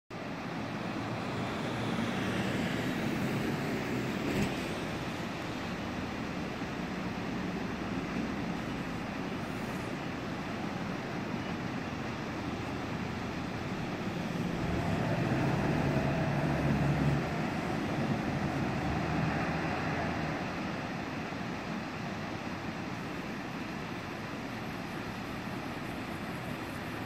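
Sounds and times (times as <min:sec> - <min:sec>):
water gushing from an outfall: 0:00.2 - 0:27.0.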